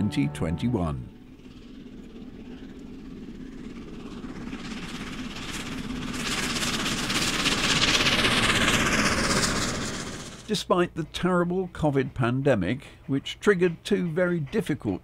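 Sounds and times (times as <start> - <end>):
steam locomotive rumble and hiss: 0.0 - 15.0.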